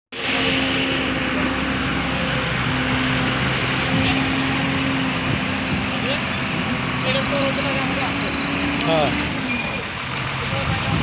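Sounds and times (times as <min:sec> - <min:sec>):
road noise: 0:00.0 - 0:11.0
truck engine humming: 0:00.1 - 0:11.0.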